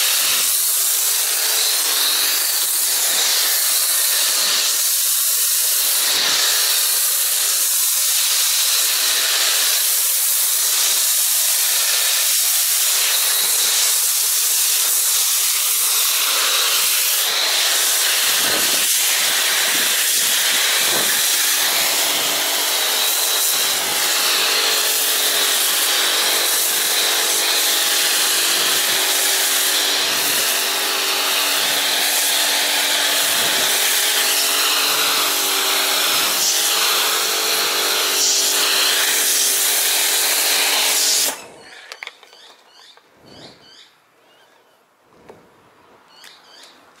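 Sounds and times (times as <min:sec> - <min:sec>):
foam spray hissing: 0:00.0 - 0:41.5
pressure washer motor hum: 0:00.0 - 0:41.9.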